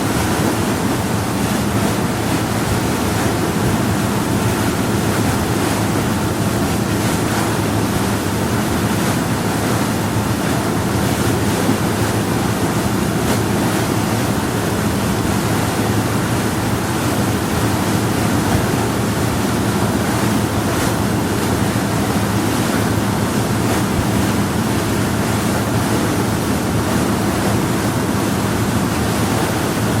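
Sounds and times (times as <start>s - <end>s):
low engine hum: 0.0s - 30.0s
water rushing along hull: 0.0s - 30.0s.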